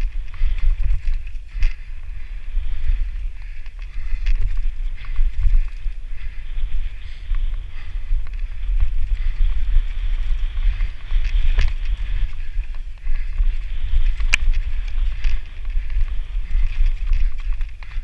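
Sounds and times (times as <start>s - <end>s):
bike rattling over rough ground: 0.0s - 18.0s
wind rumbling on camera: 0.0s - 18.0s.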